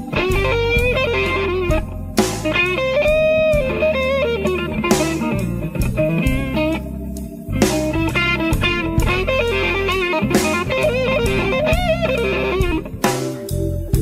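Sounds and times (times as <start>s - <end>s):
bass and drums: 0.0s - 14.0s
blues electric guitar: 0.0s - 14.0s.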